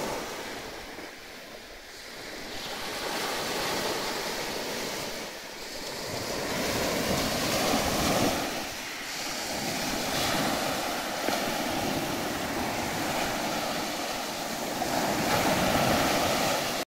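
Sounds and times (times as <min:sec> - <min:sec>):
small waves breaking on shore: 0:00.0 - 0:16.8.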